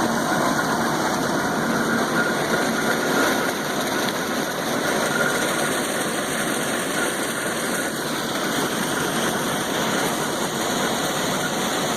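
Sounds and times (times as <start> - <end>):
engine running steadily: 0.0 - 11.9.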